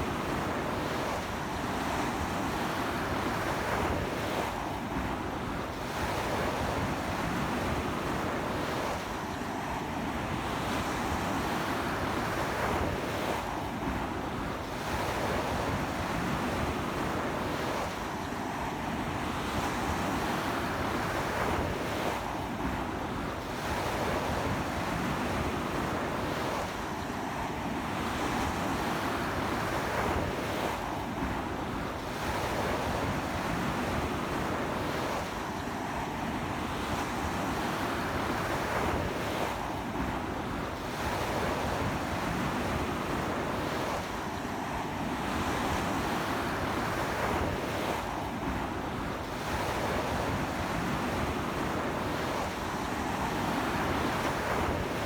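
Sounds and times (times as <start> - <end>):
surf washing up a beach: 0.0 - 55.0.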